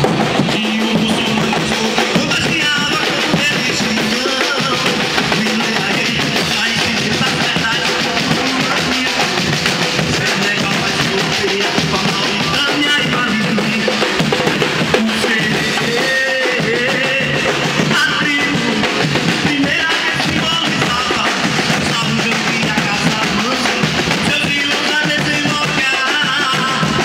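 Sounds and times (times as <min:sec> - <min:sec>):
smaller drums beating: 0:00.0 - 0:27.0
surdo bass drums beating: 0:00.0 - 0:27.0.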